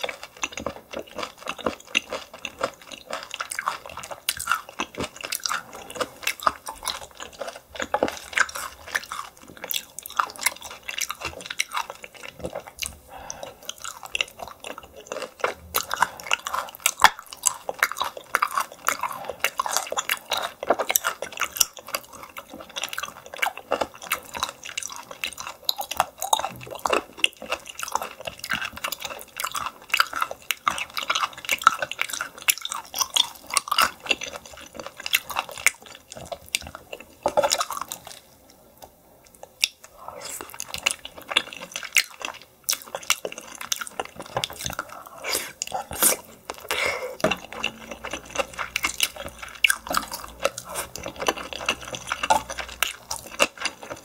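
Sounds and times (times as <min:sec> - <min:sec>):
wet chewing clicks and smacks: 0:00.0 - 0:38.2, 0:38.8 - 0:54.0.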